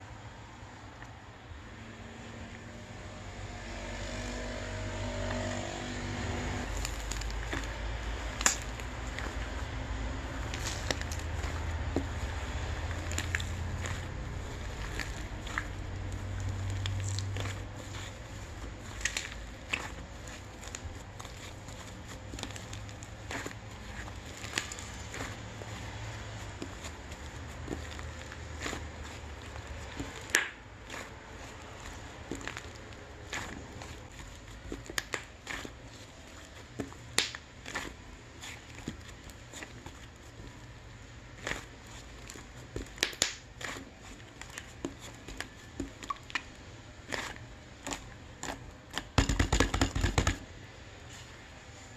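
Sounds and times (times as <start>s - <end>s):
shaving foam crackling: 6.3s - 49.1s.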